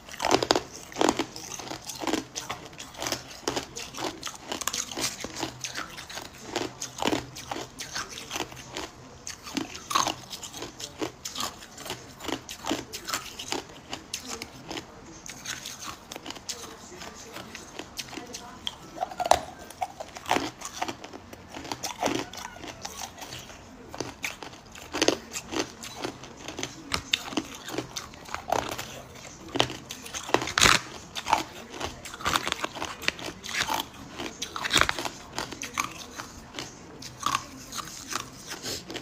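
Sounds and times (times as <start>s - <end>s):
ice cubes being chewed: 0.0s - 39.0s.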